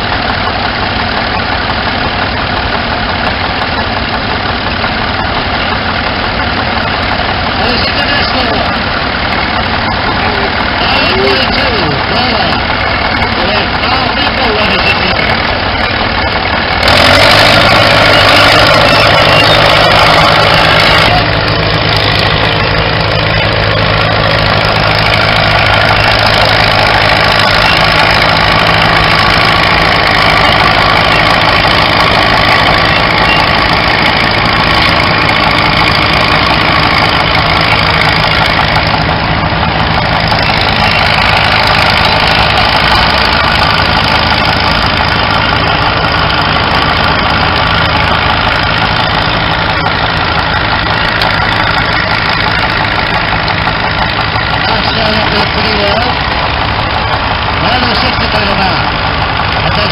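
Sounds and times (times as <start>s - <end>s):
tractor engines throbbing: 0.0s - 59.9s.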